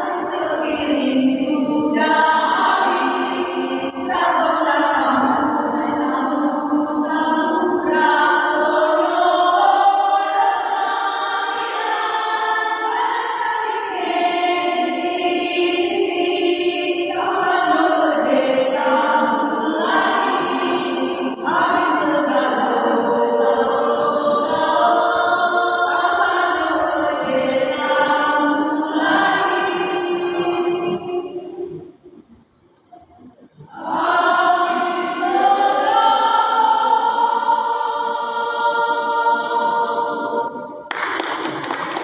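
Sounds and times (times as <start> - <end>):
choir singing sustained notes: 0.0 - 31.9, 33.6 - 42.0.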